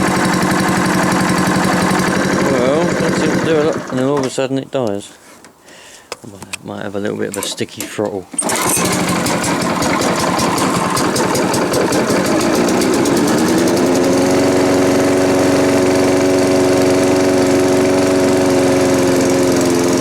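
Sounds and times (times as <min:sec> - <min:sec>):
lawnmower engine running: 0:00.0 - 0:04.4, 0:08.3 - 0:20.0.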